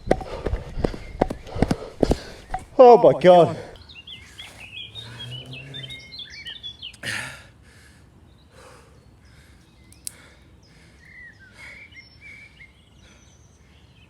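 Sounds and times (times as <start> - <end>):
small birds chirping: 0.0 - 14.0
person breathing hard: 0.2 - 2.5, 3.6 - 13.4.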